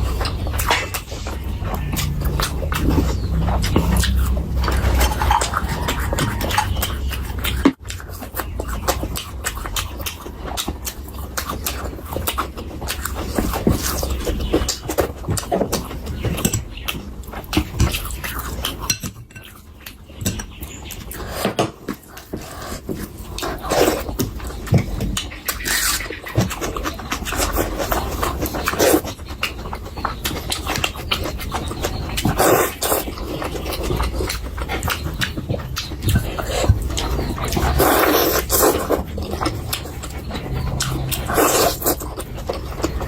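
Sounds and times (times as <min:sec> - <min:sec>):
chewing and lip-smacking: 0:00.0 - 0:43.0.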